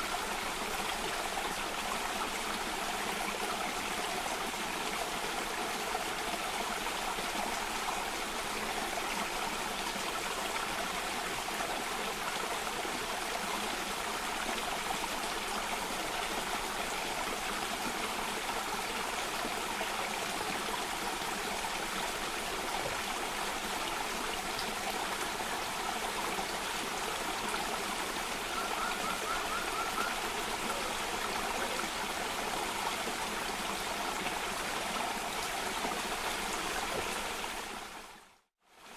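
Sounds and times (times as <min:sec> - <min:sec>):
water running over rocks: 0:00.0 - 0:38.9.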